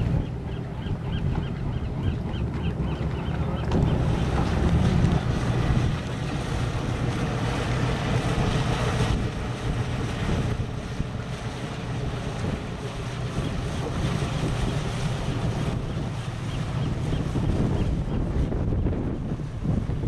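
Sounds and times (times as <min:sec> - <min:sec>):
boat engines rumbling: 0:00.0 - 0:20.0
water washing along hull: 0:00.0 - 0:20.0
wind buffeting microphone: 0:00.0 - 0:20.0.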